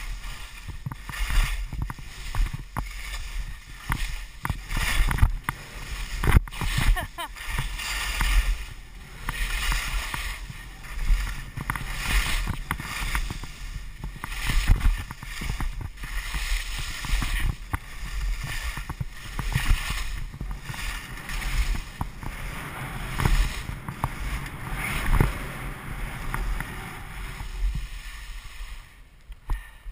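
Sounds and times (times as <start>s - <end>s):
skis scraping and hissing on snow: 0.0s - 29.9s
wind rumbling on microphone: 0.0s - 29.9s.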